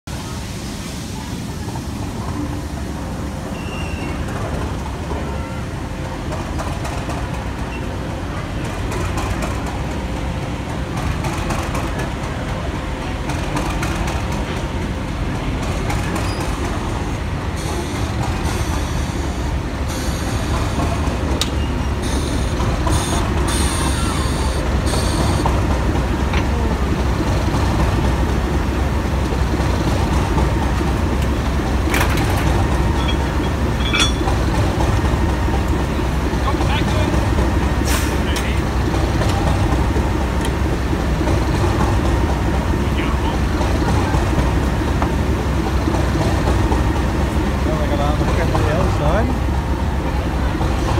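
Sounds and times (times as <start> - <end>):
diesel locomotive engine rumble: 0.0 - 50.9.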